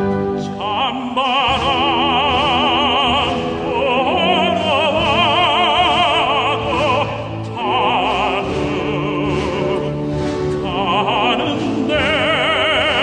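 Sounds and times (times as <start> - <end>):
instrumental accompaniment: 0.0 - 13.0
operatic tenor singing: 0.0 - 13.0.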